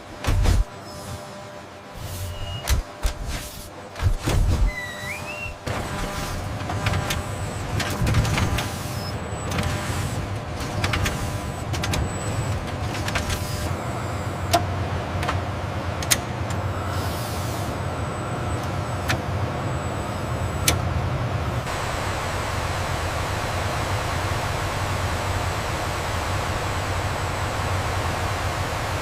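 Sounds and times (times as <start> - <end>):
low machinery hum: 0.0 - 29.0.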